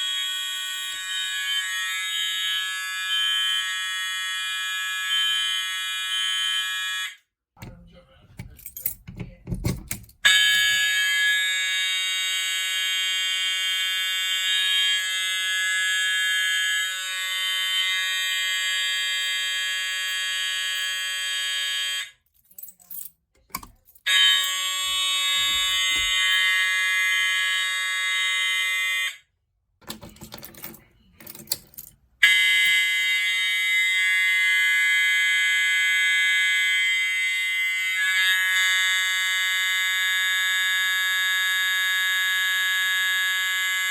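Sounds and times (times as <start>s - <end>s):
fire alarm horn tone: 0.0s - 7.2s, 10.2s - 22.2s, 24.0s - 29.3s, 32.2s - 43.9s.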